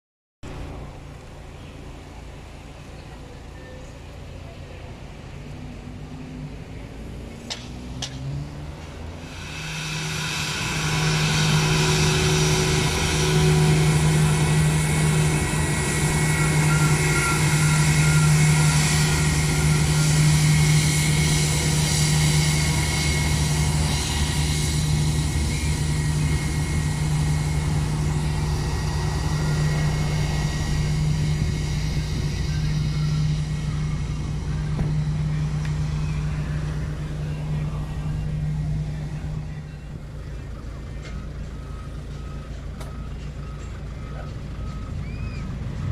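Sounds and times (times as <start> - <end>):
jet engines whining: 6.4 - 45.9.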